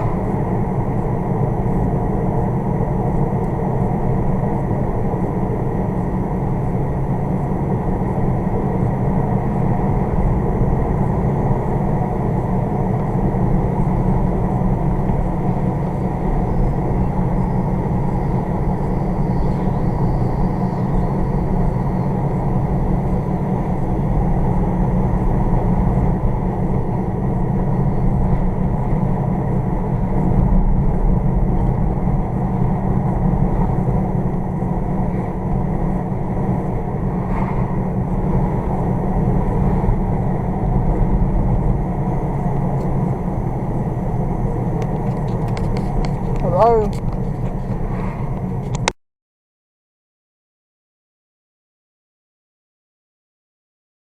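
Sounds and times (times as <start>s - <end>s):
car interior engine and road noise: 0.0s - 49.0s.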